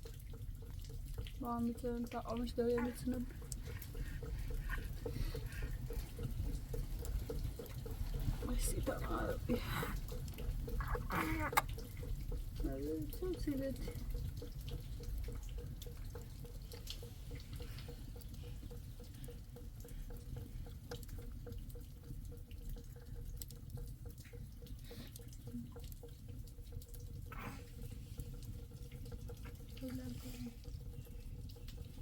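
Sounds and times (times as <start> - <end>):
water drips and splashes: 0.0 - 32.0
water running: 0.0 - 32.0.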